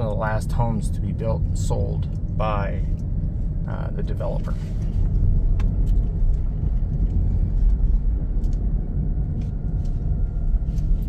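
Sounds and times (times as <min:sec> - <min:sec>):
car driving slowly on paved street: 0:00.0 - 0:11.0.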